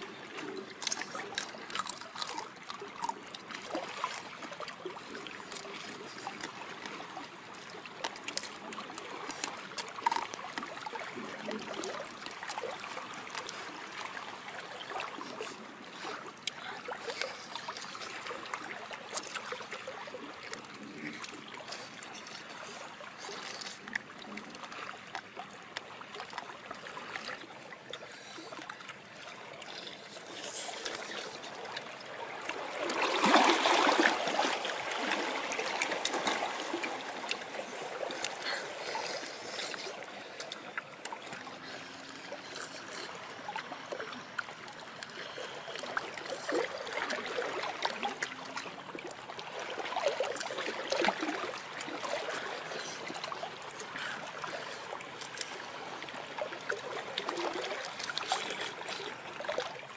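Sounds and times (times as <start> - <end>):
small water splashes: 0.0 - 59.9
water trickling: 0.0 - 59.9.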